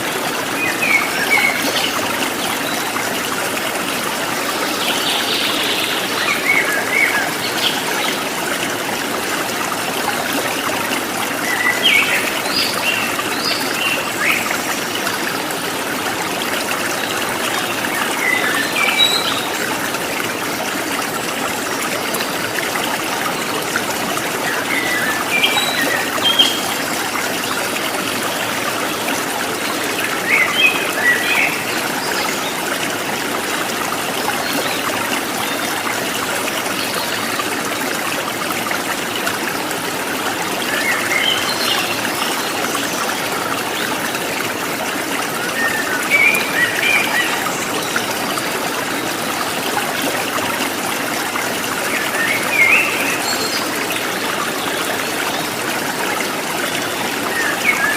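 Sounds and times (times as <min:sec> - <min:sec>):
stream water trickling: 0:00.0 - 0:57.9.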